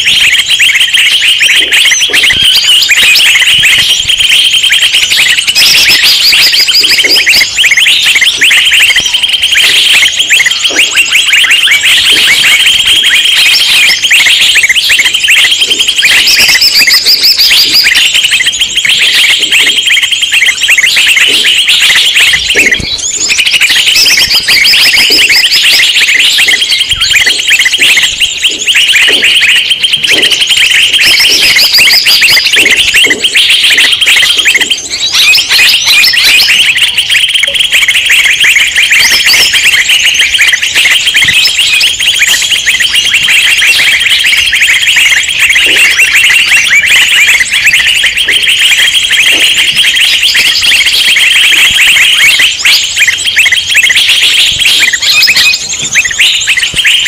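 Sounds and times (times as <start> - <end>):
flock of small birds chirping: 0.0 - 57.0.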